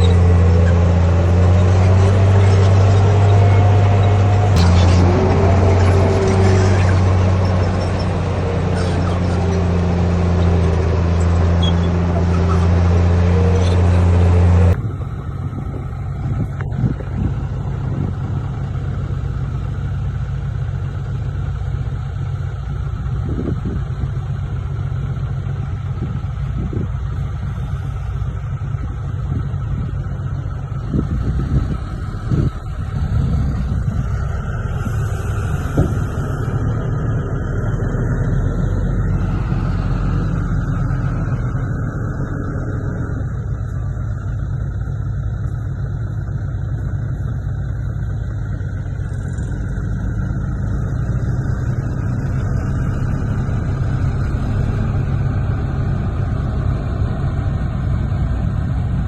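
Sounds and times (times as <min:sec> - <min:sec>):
diesel engine running loudly: 0:00.0 - 0:59.0.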